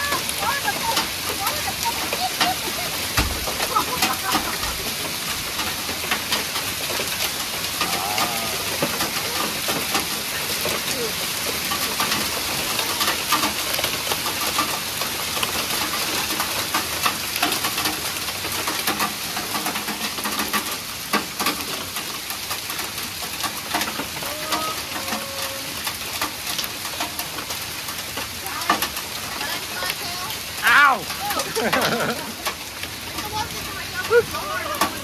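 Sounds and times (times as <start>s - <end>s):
hailstones clicking on surfaces: 0.0s - 35.0s
heavy rain hissing: 0.0s - 35.0s.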